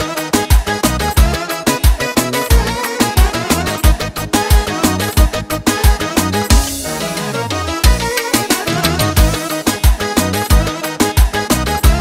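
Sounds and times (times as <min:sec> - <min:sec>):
kick drum dance beat: 0:00.5 - 0:07.1, 0:07.8 - 0:08.1, 0:09.2 - 0:12.0.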